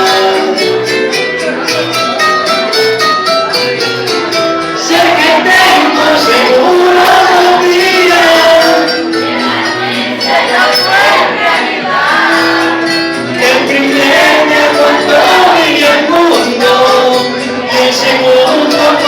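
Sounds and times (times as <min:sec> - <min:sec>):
live latin band music: 0:00.0 - 0:19.0.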